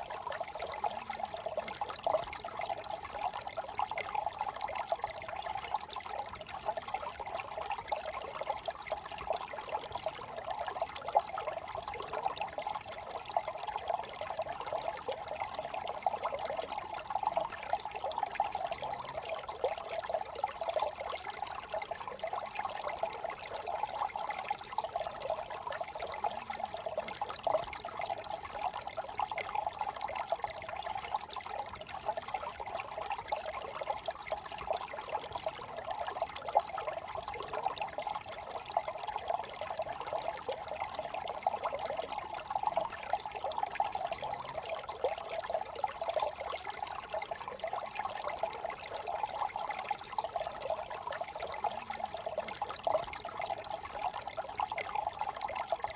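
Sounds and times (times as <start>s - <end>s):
brook babbling: 0.0s - 55.9s.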